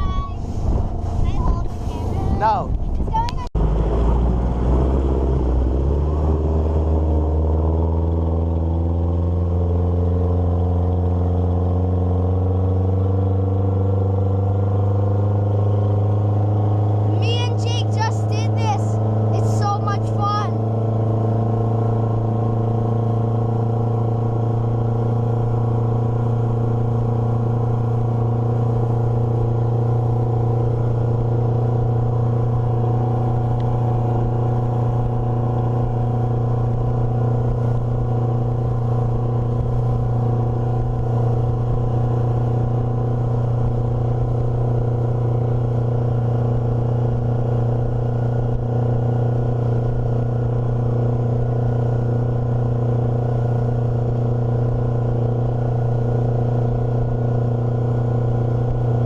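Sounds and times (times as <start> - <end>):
motorboat engine running: 0.0 - 59.0.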